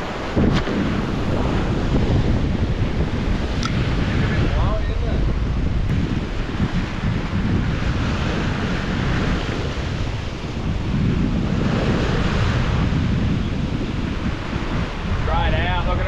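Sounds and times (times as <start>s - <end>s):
ocean waves washing against rocks: 0.0s - 16.0s
wind buffeting microphone: 0.0s - 16.0s.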